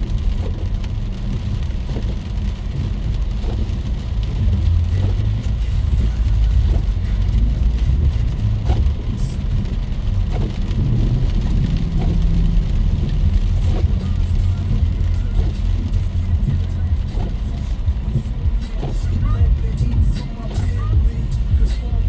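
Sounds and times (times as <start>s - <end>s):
heavy rain pouring: 0.0s - 22.0s
low rumble: 0.0s - 22.0s.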